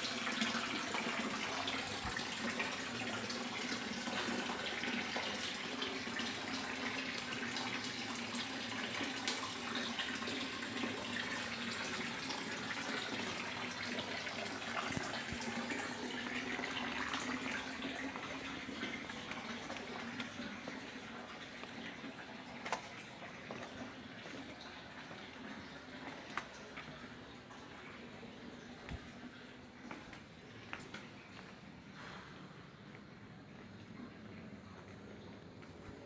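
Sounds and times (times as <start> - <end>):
running water: 0.0 - 36.0.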